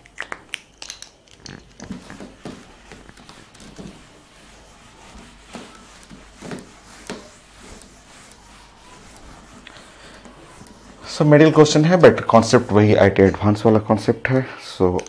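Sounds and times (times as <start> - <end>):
whiteboard wiping strokes: 1.9 - 14.1.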